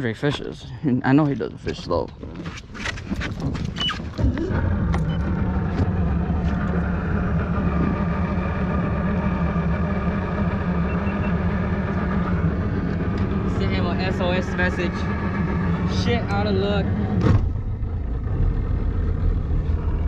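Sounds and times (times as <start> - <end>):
outboard motor running: 2.2 - 20.0.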